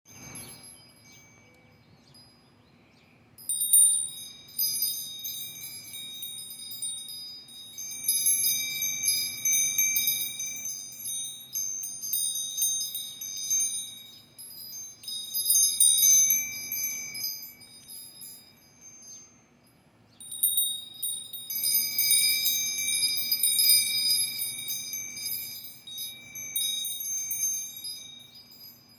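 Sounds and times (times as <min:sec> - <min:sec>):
bells jingling: 0:00.1 - 0:02.4, 0:03.4 - 0:28.9.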